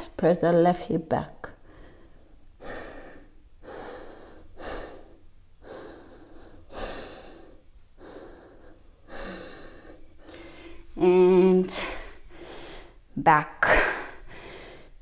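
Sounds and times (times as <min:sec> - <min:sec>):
woman breathing in and out: 0:01.5 - 0:11.0, 0:11.6 - 0:15.0.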